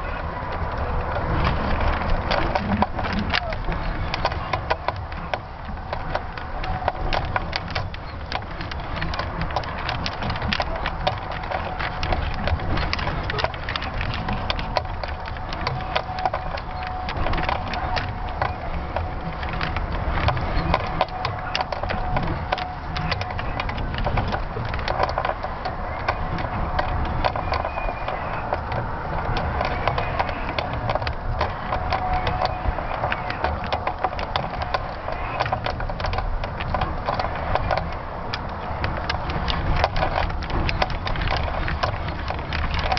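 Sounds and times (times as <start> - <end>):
housing creaking: 0.0 - 42.9
wind buffeting microphone: 0.0 - 42.9.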